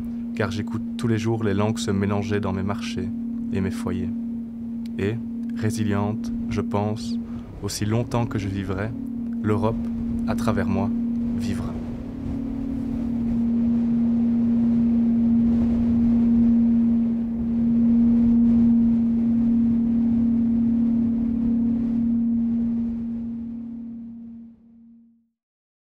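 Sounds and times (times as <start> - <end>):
rushing wind-like noise: 0.0 - 24.6
low drone note: 0.0 - 25.2.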